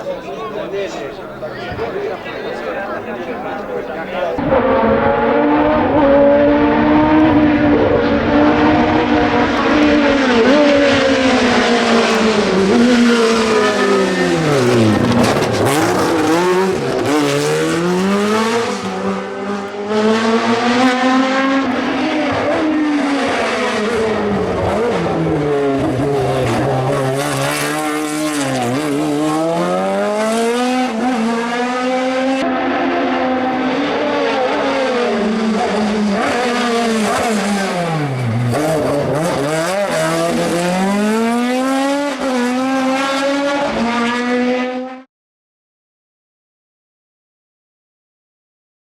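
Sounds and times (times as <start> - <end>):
racing car engine revving: 4.3 - 45.1.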